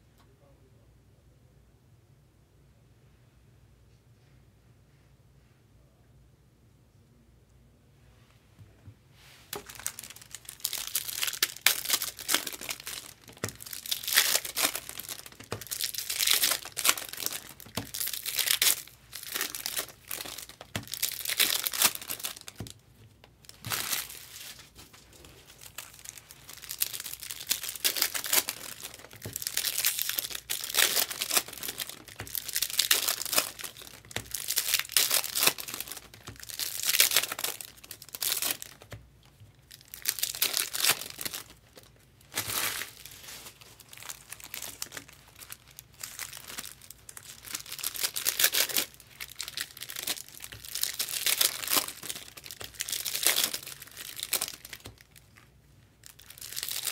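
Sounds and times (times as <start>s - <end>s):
foil wrappers crinkling and tearing: 9.5s - 56.9s.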